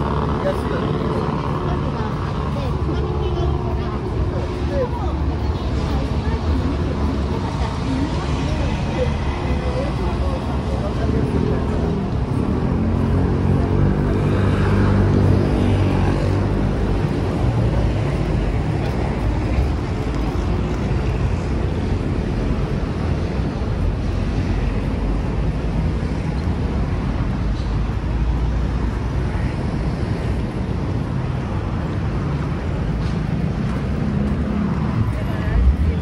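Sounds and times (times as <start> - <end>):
vehicles passing close by: 0.0 - 36.0.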